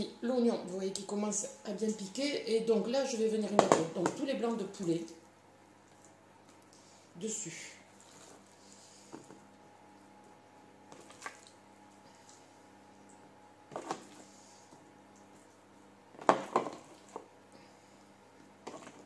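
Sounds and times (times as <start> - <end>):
oven humming: 0.0 - 19.0.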